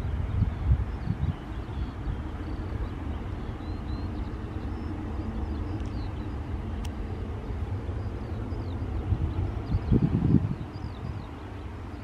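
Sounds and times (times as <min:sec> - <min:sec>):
jet engines rumbling: 0:00.0 - 0:12.0
wind on microphone: 0:00.0 - 0:12.0.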